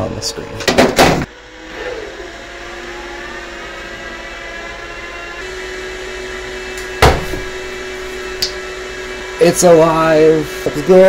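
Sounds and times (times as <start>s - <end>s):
server fans whining hum: 0.0s - 11.0s.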